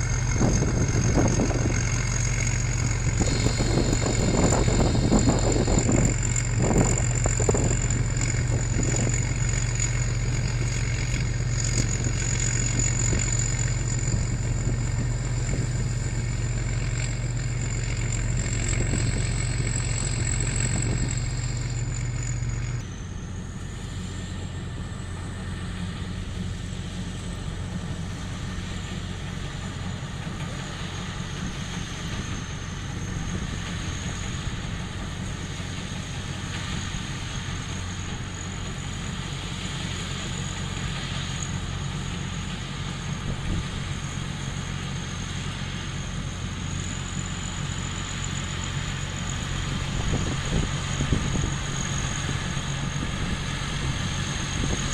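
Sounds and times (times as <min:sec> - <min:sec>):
diesel engine running: 0:00.0 - 0:54.9
high machinery whine: 0:00.0 - 0:54.9.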